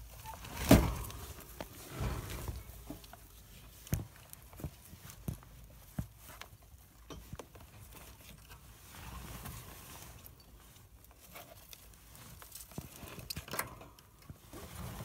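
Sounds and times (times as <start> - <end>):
rustling in bedding: 0.0 - 13.2, 14.3 - 15.0.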